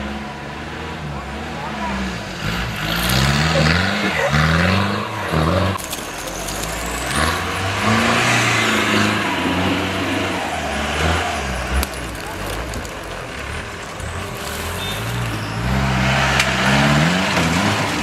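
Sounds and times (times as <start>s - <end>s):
jeep engine revving: 0.0s - 18.0s.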